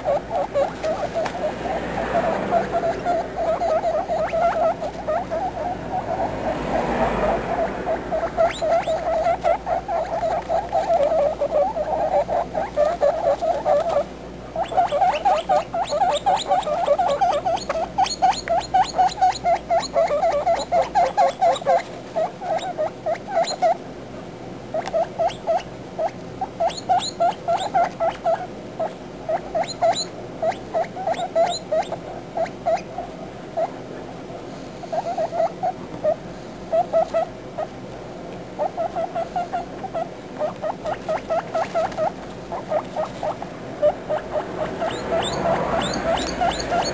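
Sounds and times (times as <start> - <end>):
guinea pig pups squeaking: 0.0 - 23.8, 24.7 - 33.8, 34.9 - 37.8, 38.6 - 46.9.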